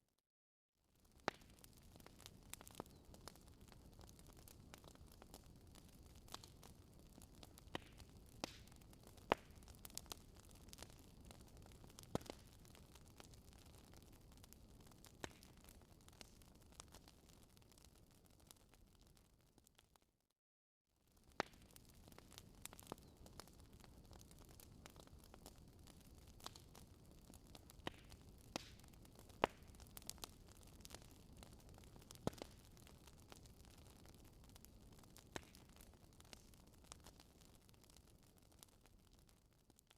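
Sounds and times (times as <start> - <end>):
fire popping: 1.0 - 20.0, 21.1 - 39.9
wood fire crackling: 1.0 - 20.0, 21.1 - 39.9.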